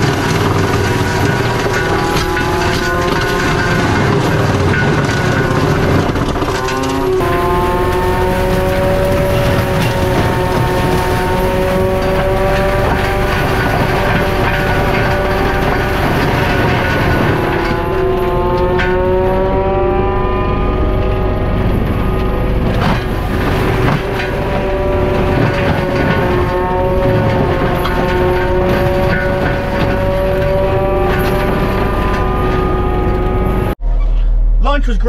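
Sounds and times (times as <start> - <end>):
forestry mulcher engine whining: 0.0 - 34.5.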